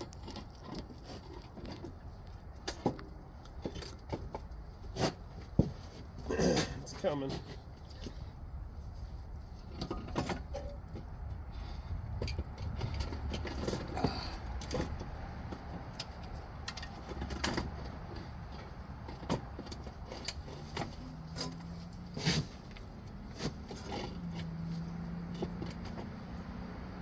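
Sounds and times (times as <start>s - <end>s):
metal clunks and scrapes: 0.0s - 26.2s.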